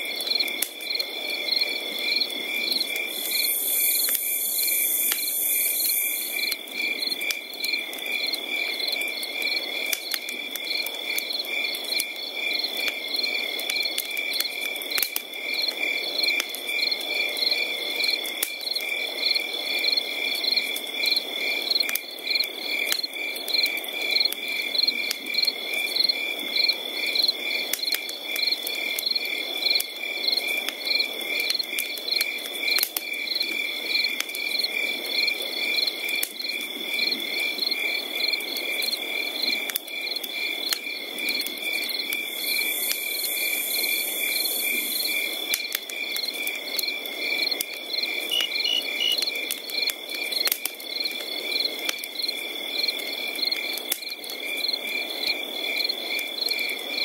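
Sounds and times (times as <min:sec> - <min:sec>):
crickets trilling and chirping: 0:00.0 - 0:57.0.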